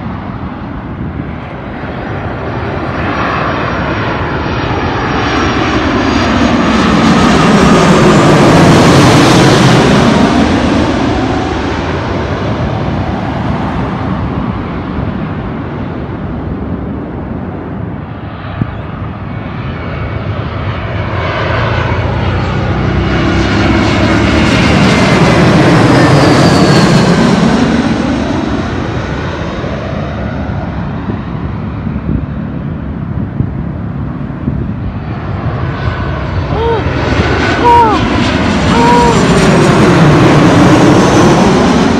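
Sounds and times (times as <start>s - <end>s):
jet airliner passing overhead: 0.0s - 41.9s.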